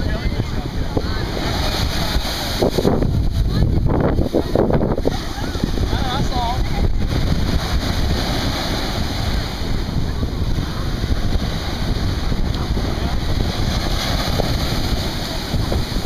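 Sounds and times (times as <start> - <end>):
small waves washing up shore: 0.0 - 16.0
wind rumbling on microphone: 0.0 - 16.0.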